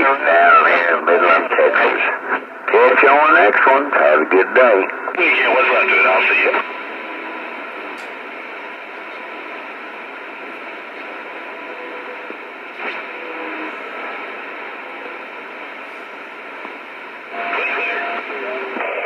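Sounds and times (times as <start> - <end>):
radio signal: 0.0 - 19.0
radio static hiss: 0.0 - 19.0.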